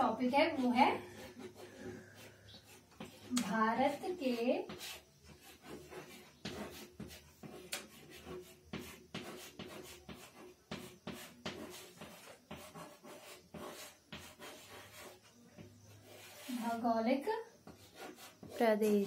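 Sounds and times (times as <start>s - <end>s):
chalk tapping and scraping on chalkboard: 0.0s - 19.0s.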